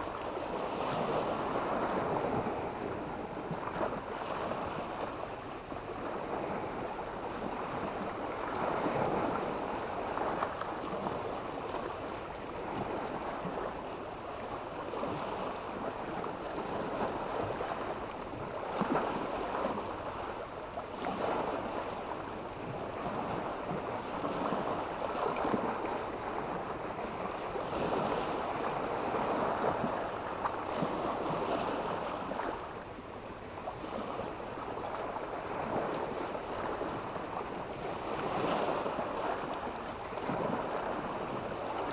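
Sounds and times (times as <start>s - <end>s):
sea waves breaking on beach: 0.0s - 41.9s.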